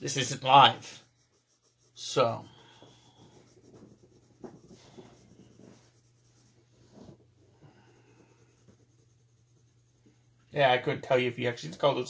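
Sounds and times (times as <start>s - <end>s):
colored pencil scratching on paper: 0.0s - 10.9s.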